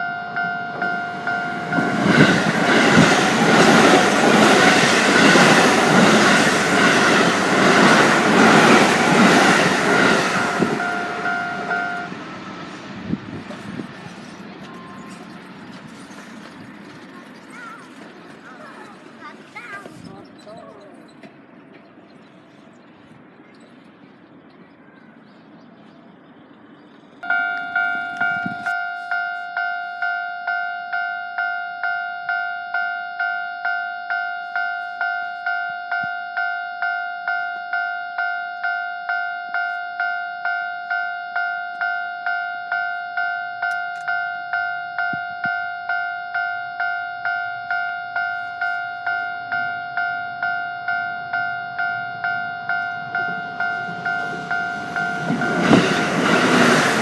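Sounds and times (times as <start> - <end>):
level crossing warning bell: 0.0 - 12.3, 13.5 - 22.7, 27.2 - 57.0.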